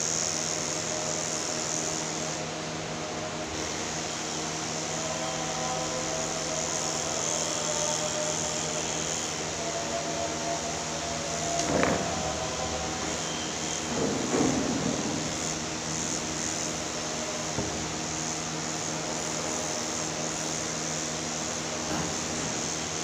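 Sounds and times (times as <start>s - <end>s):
electric pet clipper motor buzzing: 0.0s - 2.4s, 3.5s - 23.0s.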